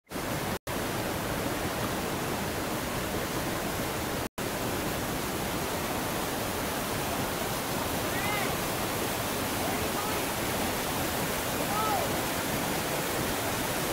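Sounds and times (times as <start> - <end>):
river rapids rushing over boulders: 0.1 - 13.9.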